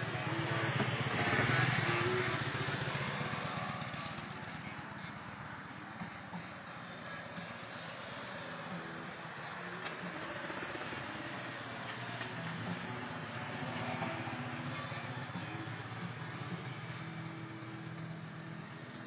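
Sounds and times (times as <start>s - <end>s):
motorcycle engine passing slowly: 0.0s - 19.0s.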